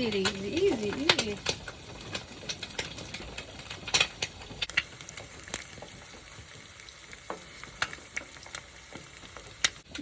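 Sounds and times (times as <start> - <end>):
eggs sizzling in a pan: 0.0 - 10.0
hot fat popping: 0.0 - 10.0.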